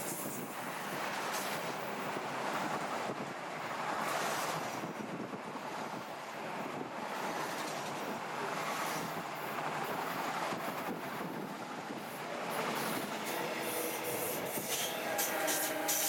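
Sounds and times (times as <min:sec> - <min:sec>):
freight train passing at speed: 0:00.0 - 0:16.0.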